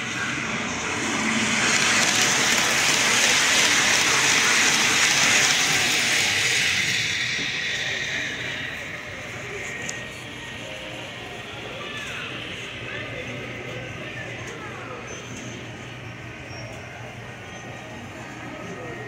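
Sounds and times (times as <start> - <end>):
model train wheels on track: 0.0 - 19.0.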